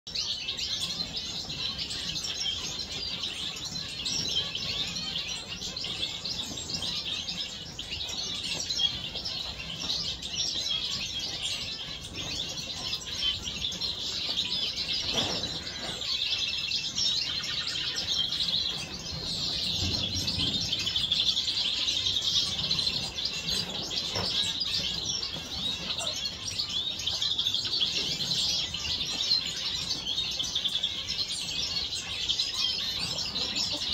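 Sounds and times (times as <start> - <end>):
finches chirping: 0.1 - 33.9.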